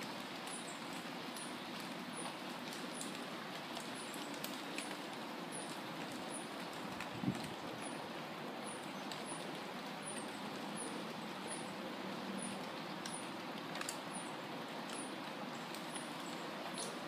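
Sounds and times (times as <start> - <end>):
leaves rustling in wind: 0.0 - 17.0.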